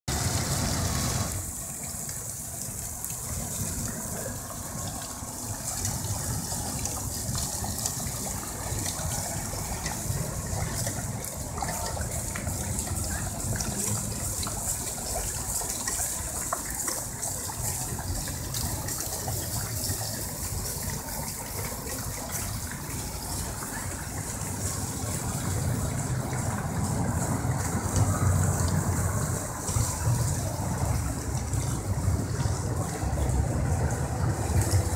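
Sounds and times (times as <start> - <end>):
fountain water spraying and splashing: 0.1 - 34.9.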